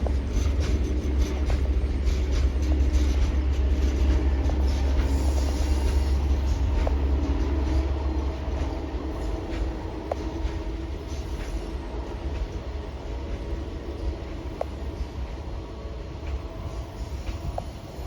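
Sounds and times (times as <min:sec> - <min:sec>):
freight train rolling by: 0:00.0 - 0:18.0.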